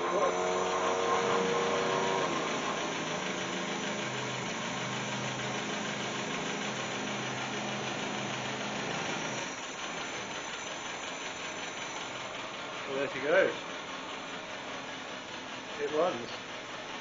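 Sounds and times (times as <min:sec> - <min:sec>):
petrol engine running: 0:00.0 - 0:17.0.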